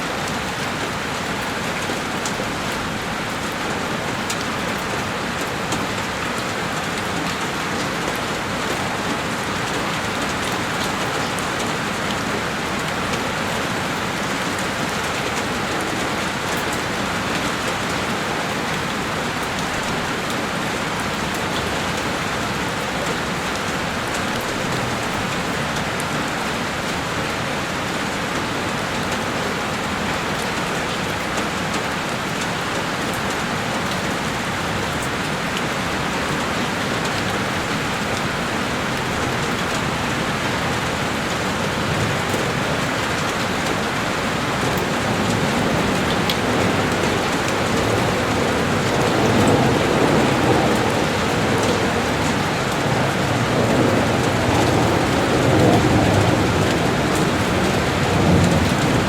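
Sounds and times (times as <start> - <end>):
heavy rain on window: 0.0 - 59.0
patter of raindrops: 0.0 - 59.0.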